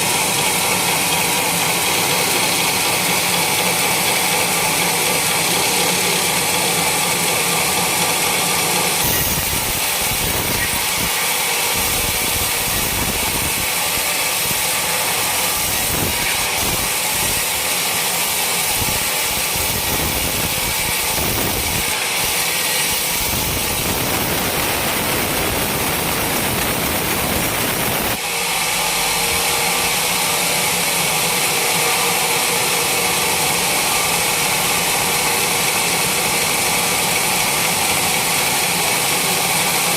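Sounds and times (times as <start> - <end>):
sawmill sawing a trunk: 0.0 - 39.9.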